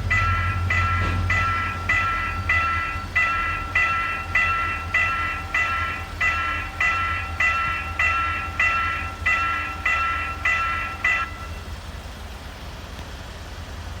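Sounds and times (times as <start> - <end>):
level crossing warning bell: 0.0 - 12.4
steady low rumble: 0.0 - 12.9.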